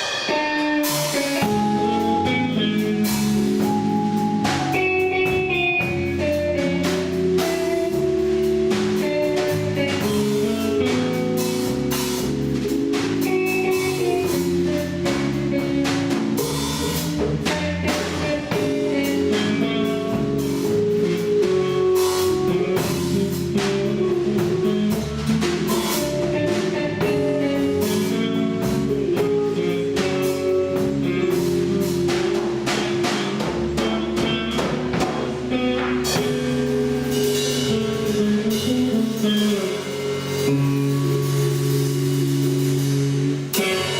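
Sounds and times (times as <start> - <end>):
band playing instrumental: 0.0 - 43.9.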